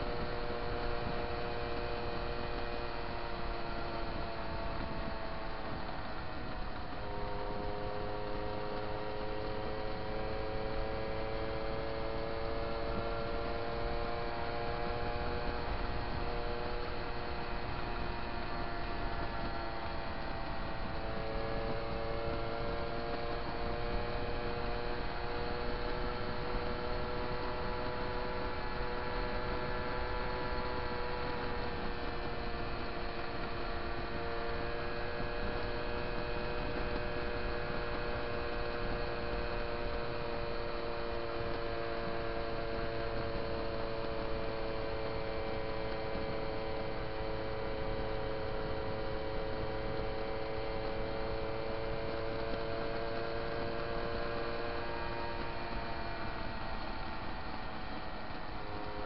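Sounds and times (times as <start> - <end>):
moped engine running: 0.0 - 59.0
wind and road noise: 0.0 - 59.0.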